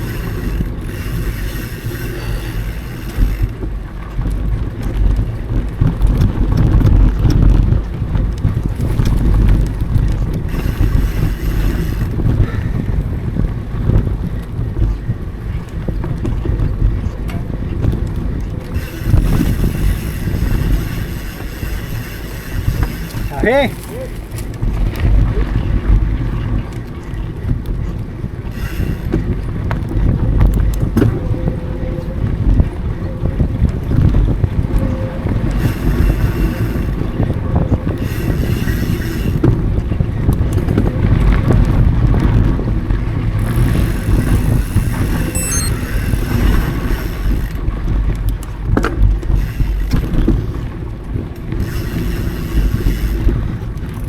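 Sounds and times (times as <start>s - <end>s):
bike clicks and knocks: 0.0s - 13.0s, 15.6s - 25.3s, 28.4s - 31.2s, 33.7s - 54.0s
wind rumbling on microphone: 0.0s - 54.0s.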